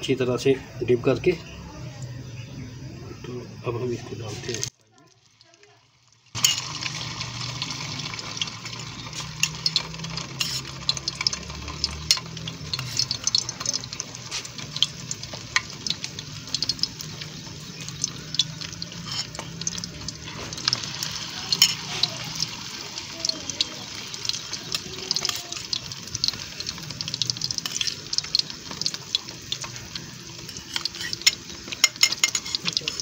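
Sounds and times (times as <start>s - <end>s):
kebabs sizzling in hot oil: 0.0s - 33.0s
oil crackling and popping: 4.1s - 33.0s.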